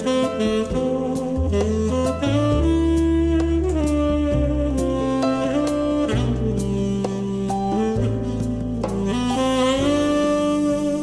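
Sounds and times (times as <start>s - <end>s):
bass line: 0.0s - 11.0s
saxophone melody: 0.0s - 11.0s.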